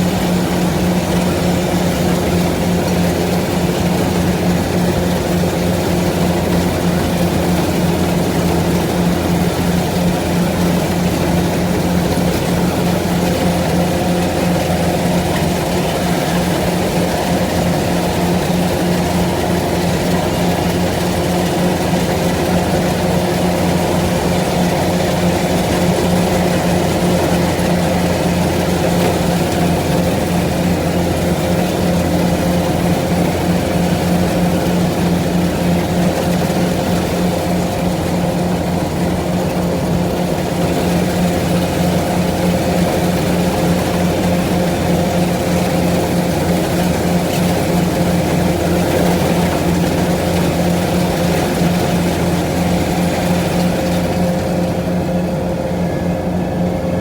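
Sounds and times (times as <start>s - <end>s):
farm machine engine droning: 0.0s - 57.0s.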